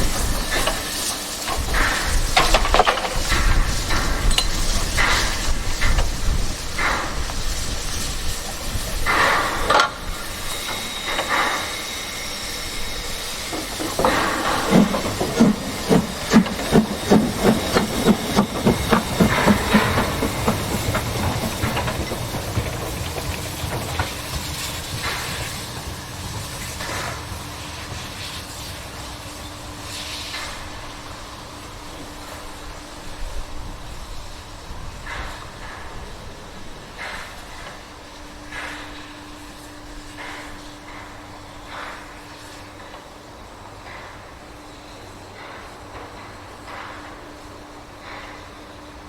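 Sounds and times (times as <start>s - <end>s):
steam hissing: 0.0s - 49.0s
steam locomotive chuffing: 0.0s - 49.0s
train rumble: 0.0s - 49.0s.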